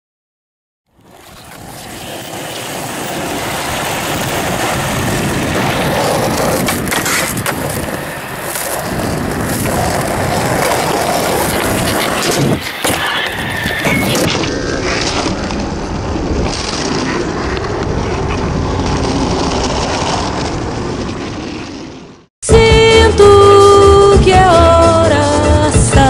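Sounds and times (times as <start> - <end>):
skateboard wheels rolling on concrete: 0.9 - 22.3.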